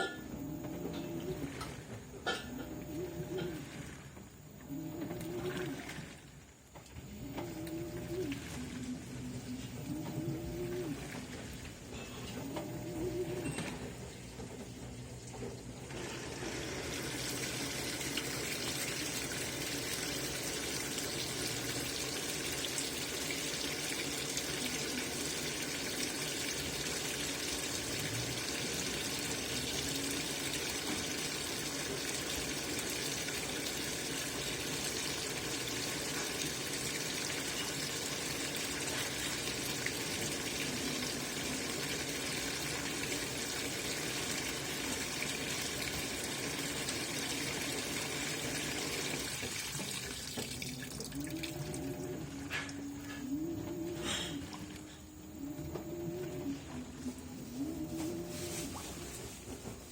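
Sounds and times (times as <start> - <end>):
water rushing into washing machine: 0.0 - 59.9.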